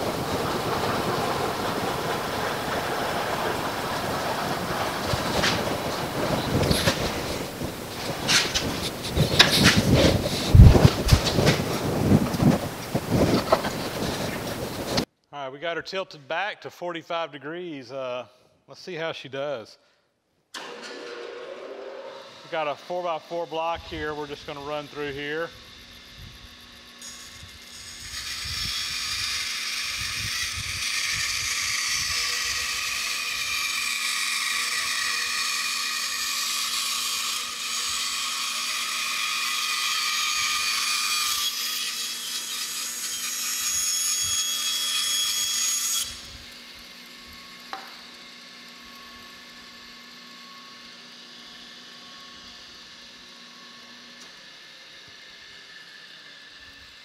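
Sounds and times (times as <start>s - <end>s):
band saw cutting wood: 0.0s - 15.1s, 20.6s - 57.0s
band saw humming: 0.0s - 15.1s, 20.6s - 57.0s.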